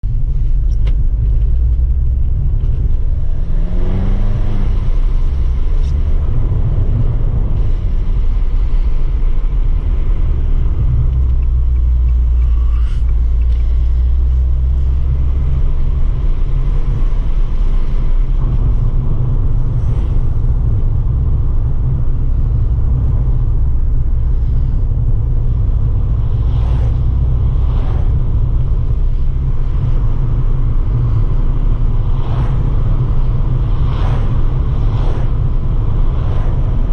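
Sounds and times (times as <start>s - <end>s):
car engine and exhaust rumble: 0.0s - 36.9s.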